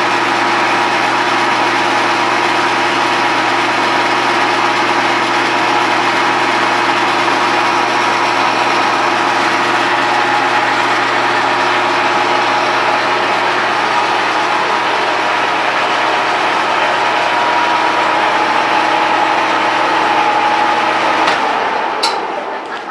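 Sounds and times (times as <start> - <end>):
motor winding down: 0.0 - 22.6
lathe machine drone: 0.0 - 22.9.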